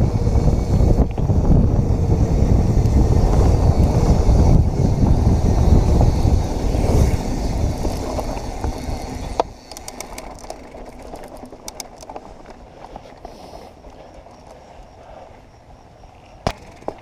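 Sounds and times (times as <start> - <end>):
bike trail rumble: 0.0 - 17.0
wind on camera: 0.0 - 17.0.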